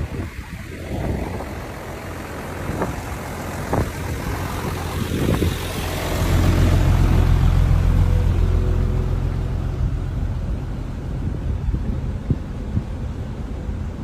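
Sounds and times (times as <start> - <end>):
engine running low rumble: 0.0 - 14.0.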